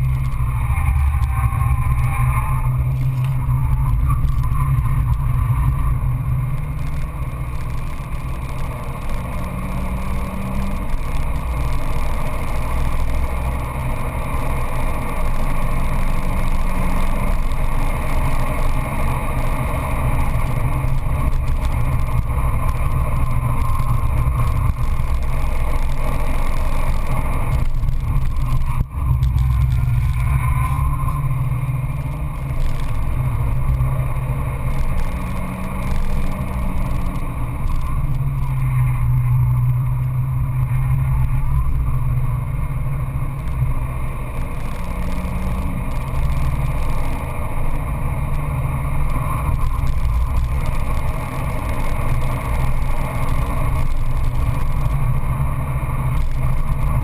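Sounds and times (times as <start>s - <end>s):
car engine pulling hard: 0.0s - 57.0s
road noise: 0.0s - 57.0s.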